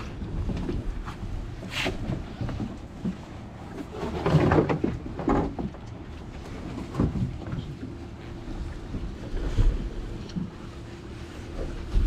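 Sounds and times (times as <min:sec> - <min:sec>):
steady low rumble: 0:00.0 - 0:04.2, 0:04.8 - 0:12.0
knocks and thuds on boat: 0:00.0 - 0:10.8, 0:11.4 - 0:12.0.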